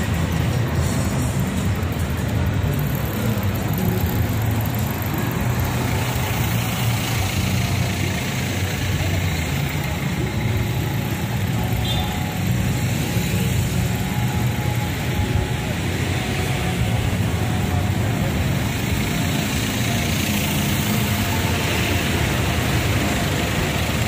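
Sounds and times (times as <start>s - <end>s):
traffic rumble: 0.0s - 24.0s
wind: 0.0s - 24.0s.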